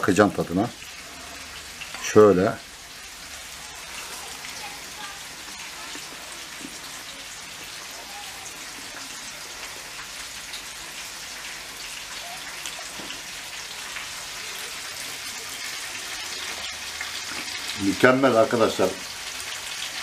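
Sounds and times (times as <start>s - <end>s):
meatballs sizzling in pan: 0.0s - 20.0s.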